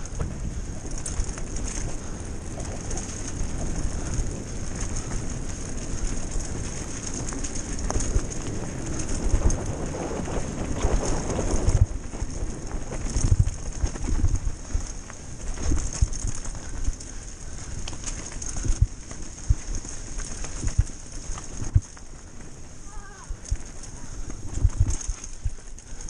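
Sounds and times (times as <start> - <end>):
bike parts rattling and clicking: 0.0 - 26.0
bike tyres on gravel trail: 0.0 - 26.0
wind buffeting microphone: 0.0 - 26.0.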